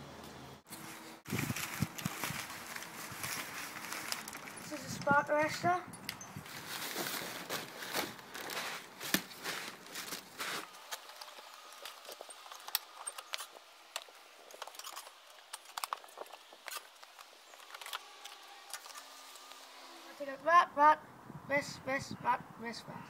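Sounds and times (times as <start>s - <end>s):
rustling: 0.7s - 20.2s.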